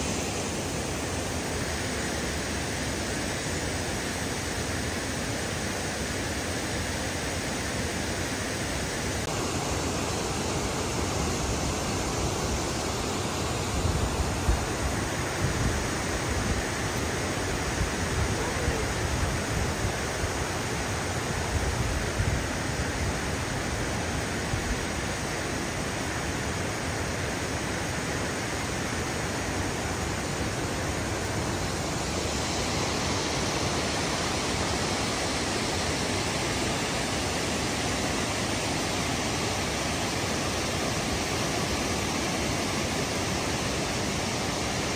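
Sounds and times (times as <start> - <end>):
water rushing through floodgates: 0.0 - 44.9.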